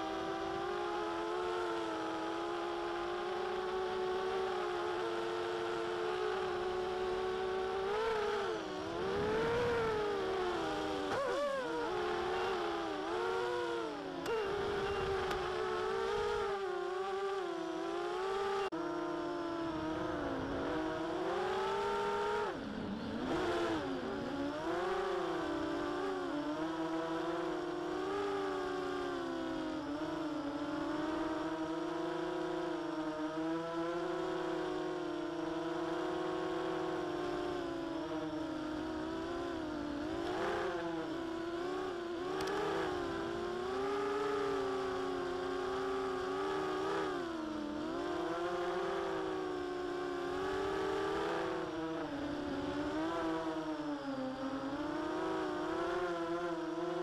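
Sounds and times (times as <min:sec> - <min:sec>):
drone propellers whining: 0:00.0 - 0:57.0.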